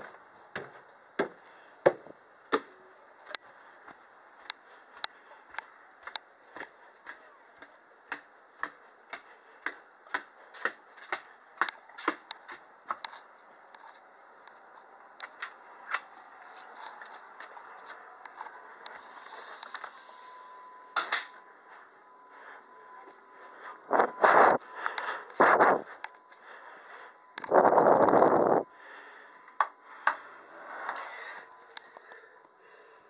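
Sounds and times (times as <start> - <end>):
footsteps on porch floor: 0.0 - 20.0, 21.6 - 28.4.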